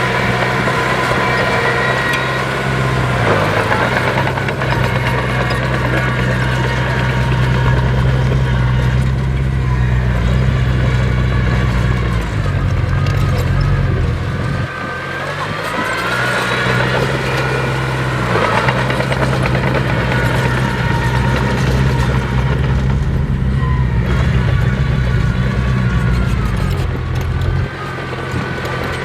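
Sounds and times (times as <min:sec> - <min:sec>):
heavy diesel engine drone: 0:00.0 - 0:29.0.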